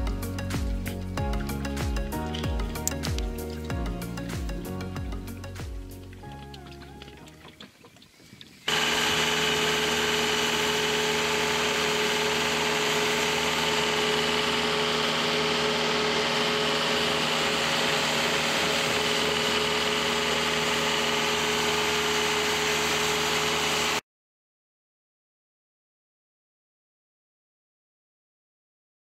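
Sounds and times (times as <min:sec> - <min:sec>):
motorboat engine running: 0:00.0 - 0:24.0.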